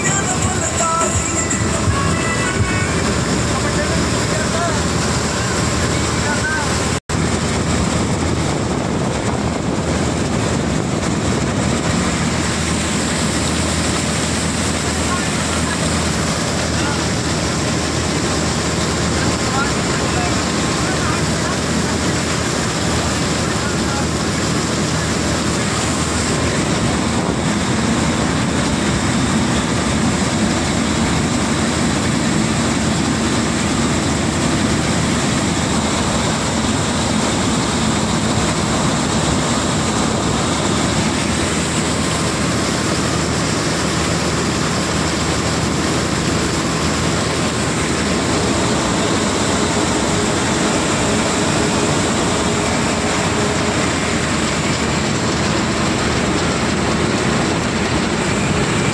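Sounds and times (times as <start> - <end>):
combine harvester droning: 0.0 - 58.9.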